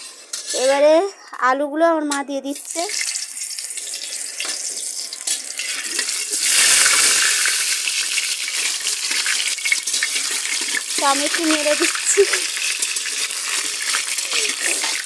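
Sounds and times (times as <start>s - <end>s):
potatoes sizzling in oil: 2.5s - 15.0s.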